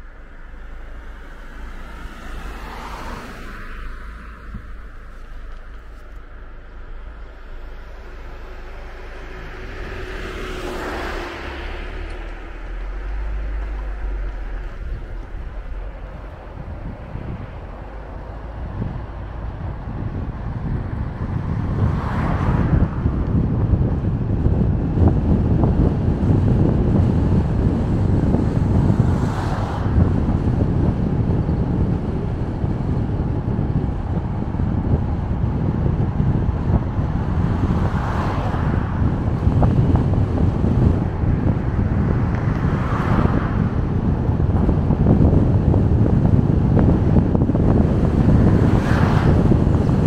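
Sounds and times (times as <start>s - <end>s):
car road and wind noise: 0.0s - 50.0s.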